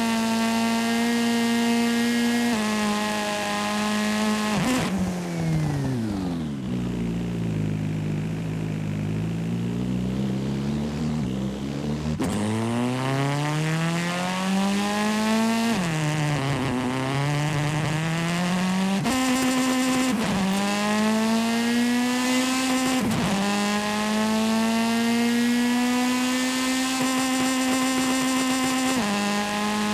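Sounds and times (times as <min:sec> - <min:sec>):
video game car engine accelerating: 0:00.0 - 0:29.9.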